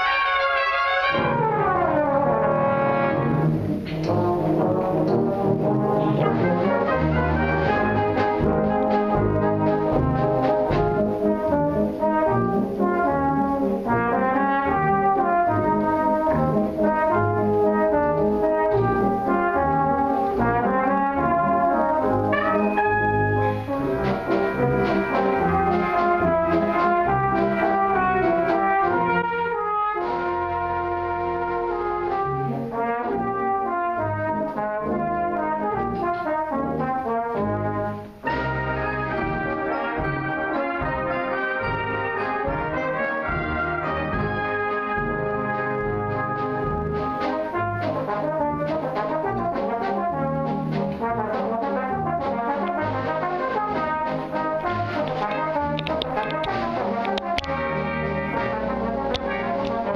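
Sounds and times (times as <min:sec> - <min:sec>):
tenor horn solo: 0:00.0 - 0:50.4, 0:51.0 - 0:59.9
brass band playing: 0:00.0 - 0:59.9.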